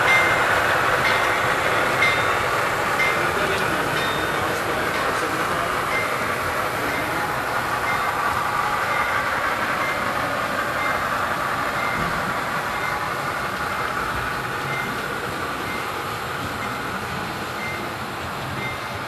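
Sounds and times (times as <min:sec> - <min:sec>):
model train rolling whir: 0:00.0 - 0:19.0.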